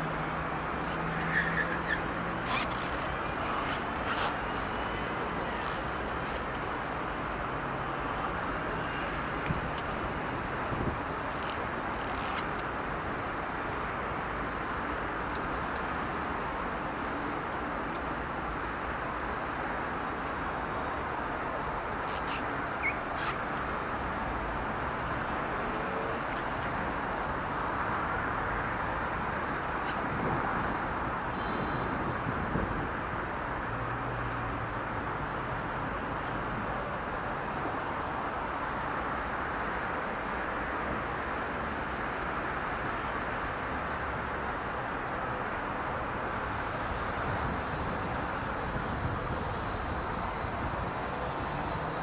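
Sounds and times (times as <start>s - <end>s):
city street traffic: 0.0s - 52.0s.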